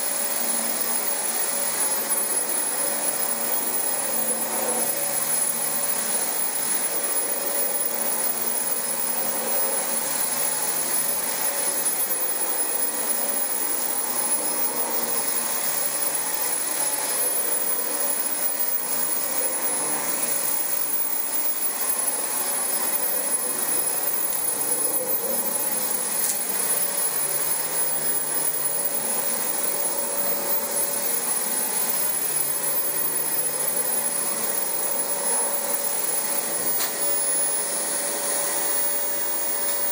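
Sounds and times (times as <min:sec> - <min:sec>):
vacuum cleaner motor whining: 0:00.0 - 0:39.9.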